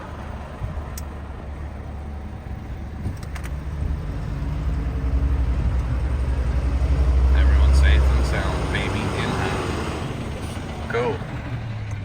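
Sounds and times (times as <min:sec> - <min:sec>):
fire engine rumbling: 0:00.0 - 0:12.0.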